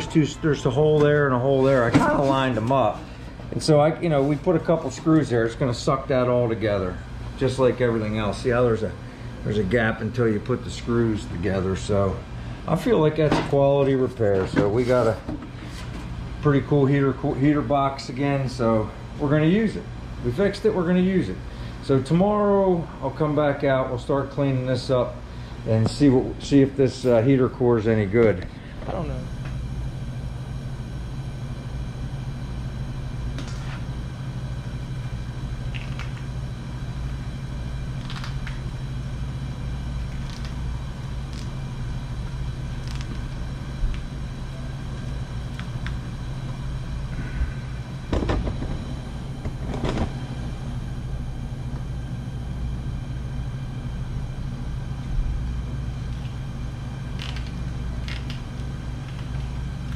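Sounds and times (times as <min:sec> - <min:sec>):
heater humming: 0:00.0 - 0:59.9.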